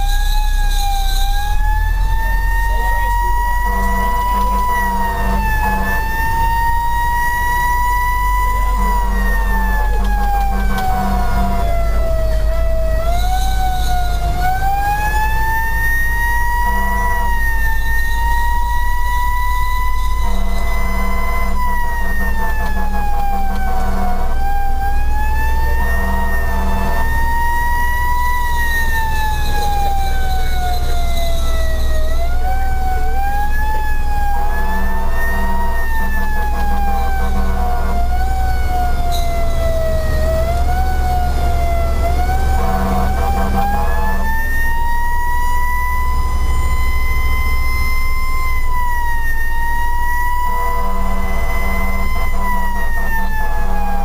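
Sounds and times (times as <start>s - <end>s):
horn blasts: 0.0s - 45.0s, 49.8s - 54.0s
engine and road rumble: 0.0s - 54.0s
siren wailing: 0.0s - 54.0s.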